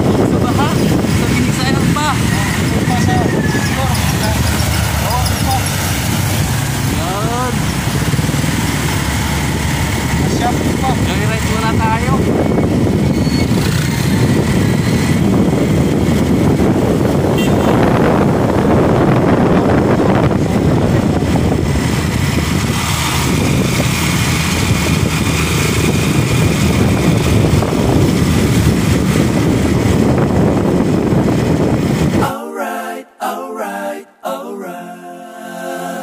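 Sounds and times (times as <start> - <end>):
motorcycle engine: 0.0 - 32.2
wind rushing over microphone: 0.0 - 32.3.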